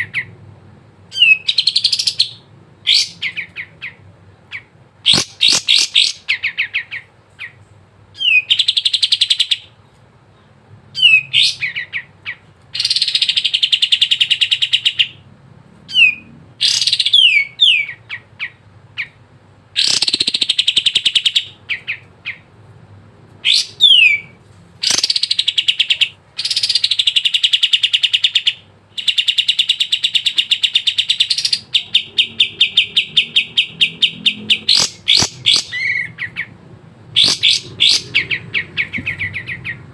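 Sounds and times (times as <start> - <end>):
bird singing rapid trills: 1.1 - 9.8, 11.0 - 15.2, 15.9 - 22.5, 23.4 - 39.9.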